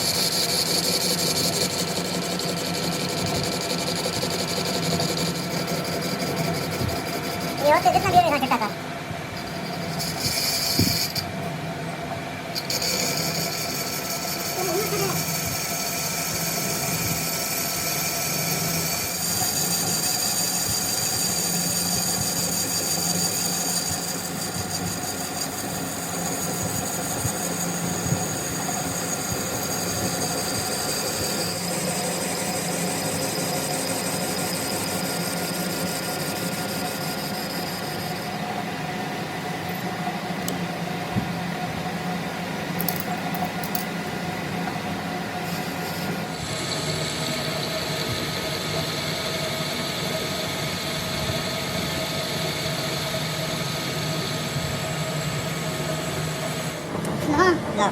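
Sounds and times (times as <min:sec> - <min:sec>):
motor high-pitched whine: 0:00.0 - 0:57.9.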